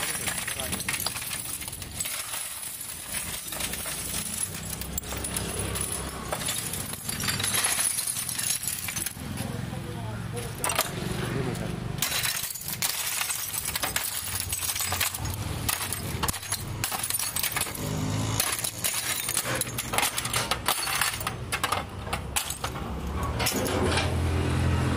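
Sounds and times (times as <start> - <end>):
broken glass crunching and clinking: 0.0 - 11.1, 12.0 - 24.1.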